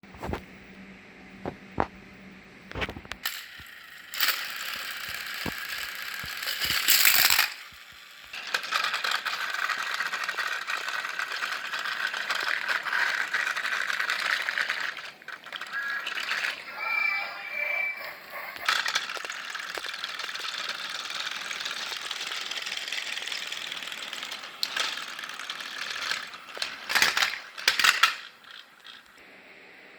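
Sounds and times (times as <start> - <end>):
clicks of toys being handled: 2.7 - 16.5, 18.6 - 29.2
toy train motor whirring: 3.2 - 29.2.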